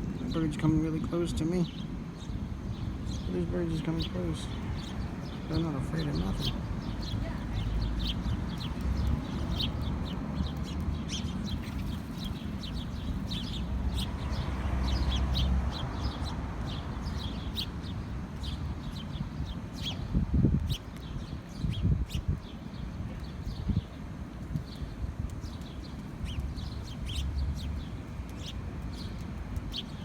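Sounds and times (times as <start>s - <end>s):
flock of small birds chirping: 0.0s - 30.0s.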